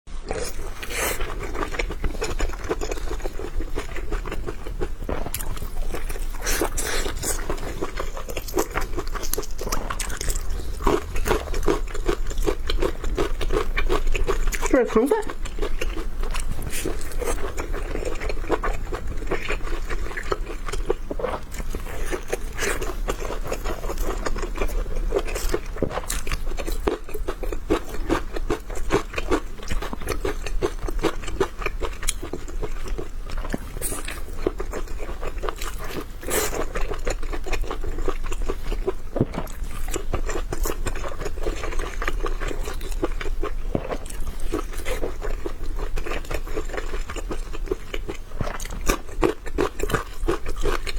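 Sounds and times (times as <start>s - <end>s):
chewing dumplings: 0.1s - 50.9s.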